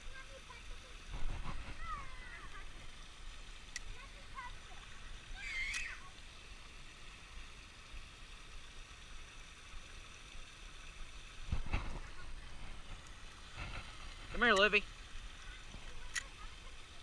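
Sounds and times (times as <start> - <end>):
water trickling over spillway: 0.0 - 17.0.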